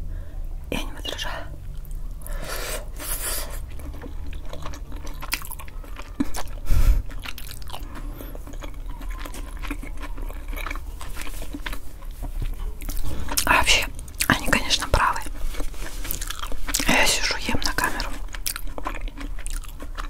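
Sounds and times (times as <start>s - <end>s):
chewing and wet mouth sounds: 1.0s - 20.0s.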